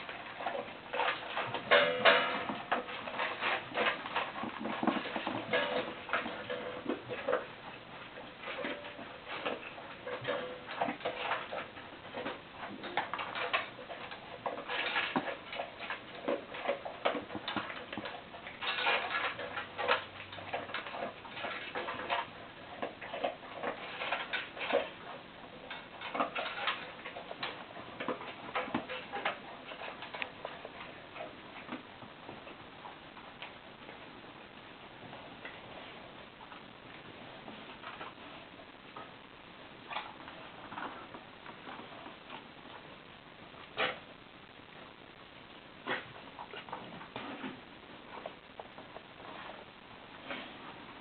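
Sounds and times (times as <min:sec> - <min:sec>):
animals crunching food from bowls: 0:00.0 - 0:51.0.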